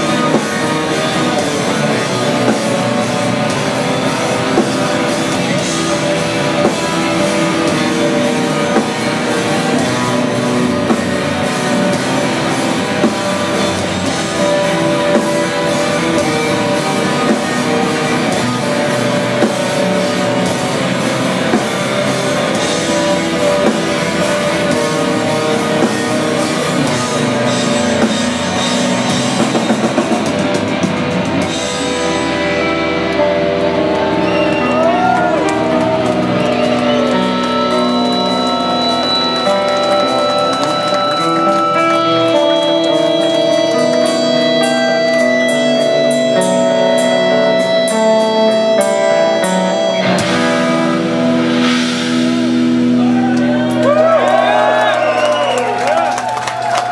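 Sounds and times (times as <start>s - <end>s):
black metal band playing live: 0.0s - 56.9s
drum kit: 0.0s - 56.9s
electric guitars: 0.0s - 56.9s.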